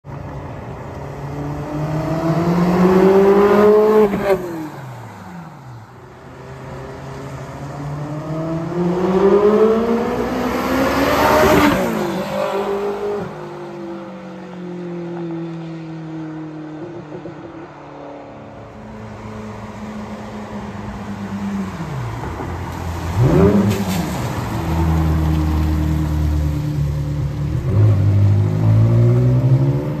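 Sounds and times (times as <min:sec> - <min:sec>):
sports car engine passing and revving: 0:00.1 - 0:30.0.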